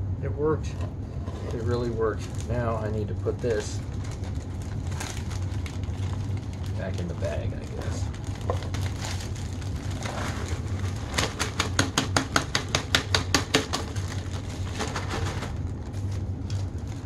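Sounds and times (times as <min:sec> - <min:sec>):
popcorn rattling in plastic: 0:01.3 - 0:17.0.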